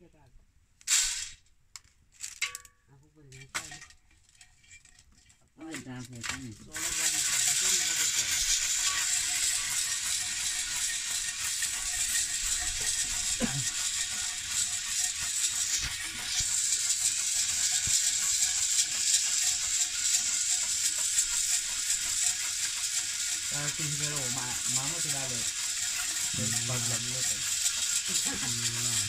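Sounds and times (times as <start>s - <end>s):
kernels rattling in a pot: 0.9s - 29.0s.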